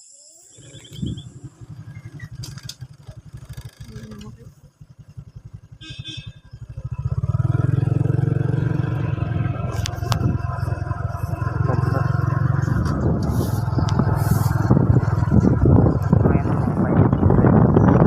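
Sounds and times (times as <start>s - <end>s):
motorbike engine running: 0.6s - 18.0s.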